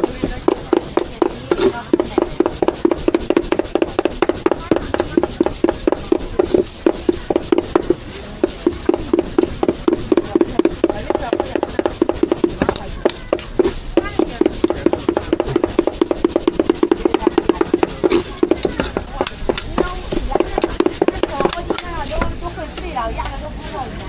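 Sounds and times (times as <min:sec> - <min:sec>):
knife chopping meat: 0:00.0 - 0:22.4
voices: 0:00.0 - 0:24.0.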